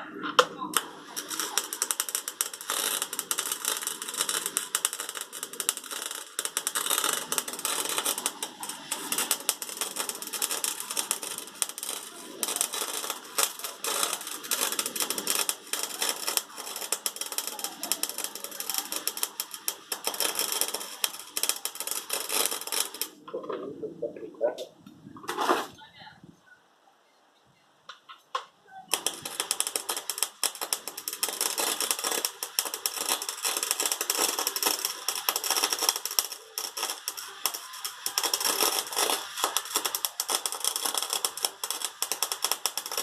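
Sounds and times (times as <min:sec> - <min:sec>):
welder arc crackling: 0:00.0 - 0:23.5, 0:28.3 - 0:43.0.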